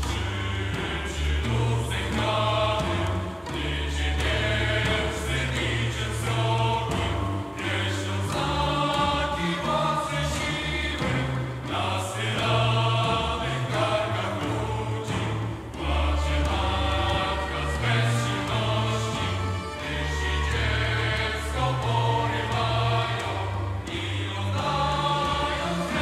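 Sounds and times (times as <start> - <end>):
choir singing: 0.0 - 26.0
orchestra playing: 0.0 - 26.0.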